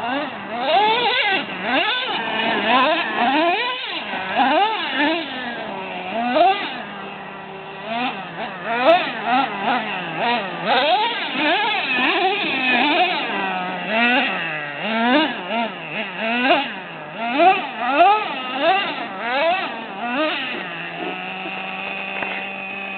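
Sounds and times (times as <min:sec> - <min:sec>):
small nitro engine revving: 0:00.0 - 0:22.9.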